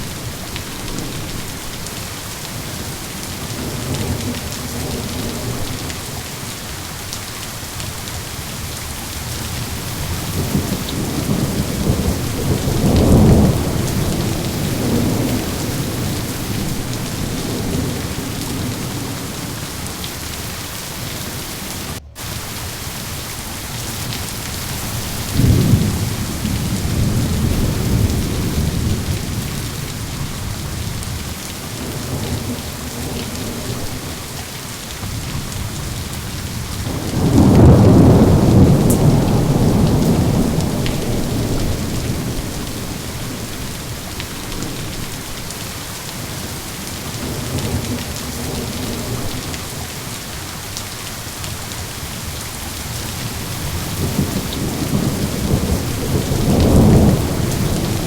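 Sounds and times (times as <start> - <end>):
heavy rain: 0.0 - 58.0
rolling thunder: 7.9 - 50.2, 52.8 - 58.0.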